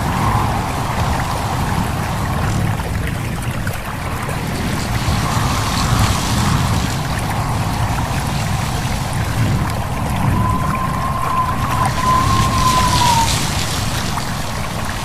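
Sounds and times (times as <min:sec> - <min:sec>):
wind through leaves: 0:00.0 - 0:15.0.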